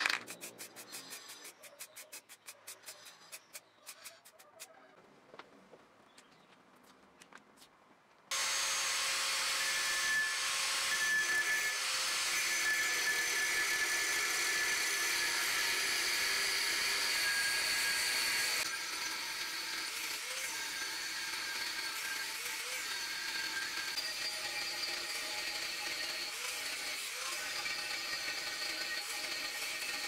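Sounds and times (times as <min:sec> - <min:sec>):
angle grinder cutting steel: 0:00.0 - 0:04.4, 0:08.3 - 0:30.0.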